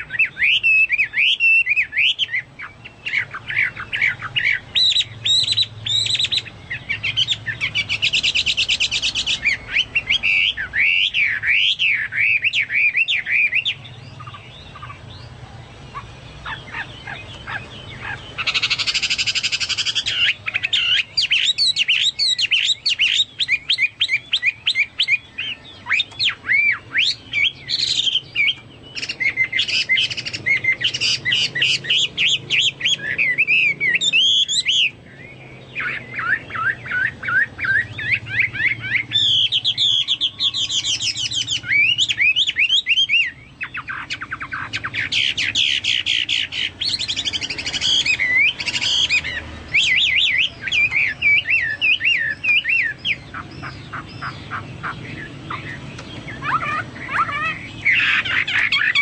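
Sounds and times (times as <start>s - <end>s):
bird singing whistled trills: 0.0s - 59.0s.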